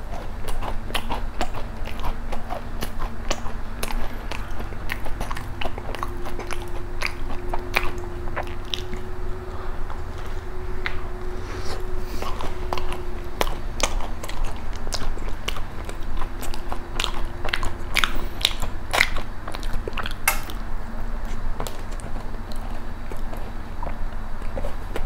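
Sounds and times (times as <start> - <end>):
wet chewing sounds: 0.0 - 25.0.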